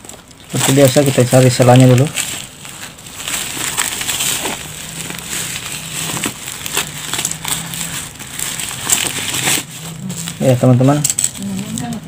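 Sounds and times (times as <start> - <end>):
plastic mailer bag crinkling: 0.0 - 12.0.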